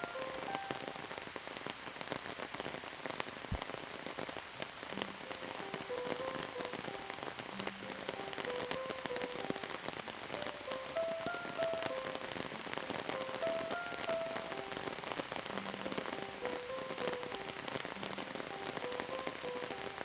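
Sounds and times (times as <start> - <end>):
slow gentle melody: 0.0 - 1.4, 4.9 - 20.0
steady rain falling: 0.0 - 20.0.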